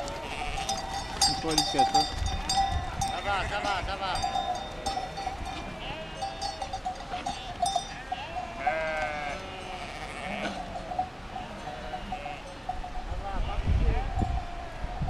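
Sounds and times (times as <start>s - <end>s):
flock of sheep bleating: 0.0s - 15.0s.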